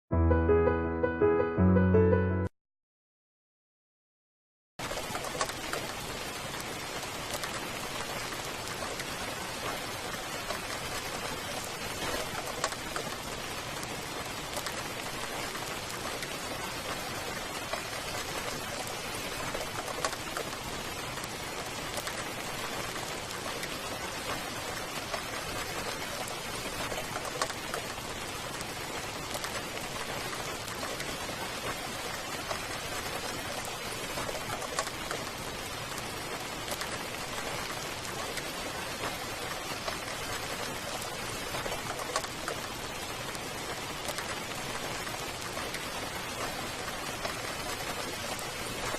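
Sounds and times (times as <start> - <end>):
steady rain: 4.8 - 48.9.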